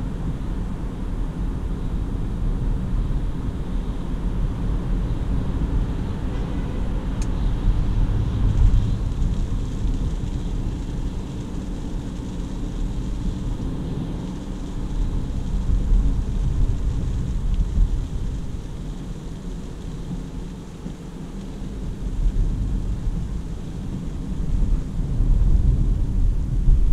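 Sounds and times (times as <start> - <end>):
car cabin road and engine rumble: 0.0 - 26.9.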